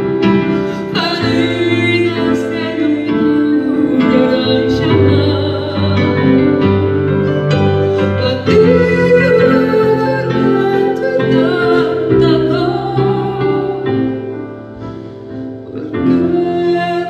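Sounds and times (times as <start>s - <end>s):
electric keyboard chords: 0.0s - 17.0s
woman singing with vibrato: 0.6s - 14.4s, 15.7s - 17.0s.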